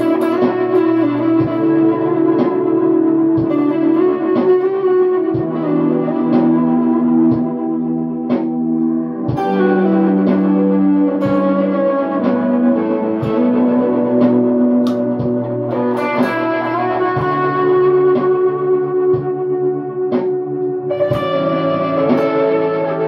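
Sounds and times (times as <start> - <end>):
clean electric guitar with reverb: 0.0 - 23.0.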